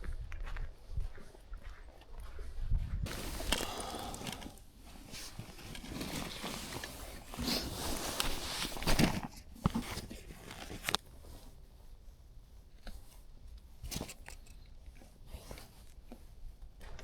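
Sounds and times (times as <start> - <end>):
rustling and crunching: 3.0 - 17.0.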